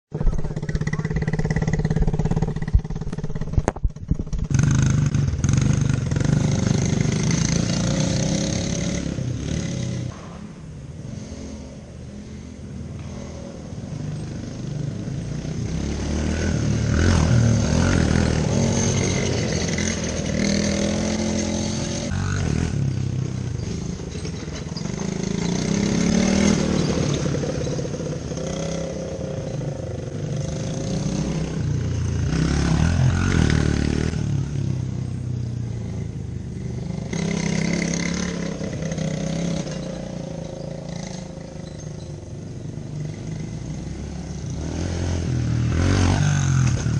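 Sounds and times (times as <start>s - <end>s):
off-road vehicle engine revving: 4.4s - 10.2s, 11.0s - 34.8s, 36.6s - 42.1s, 42.7s - 46.9s.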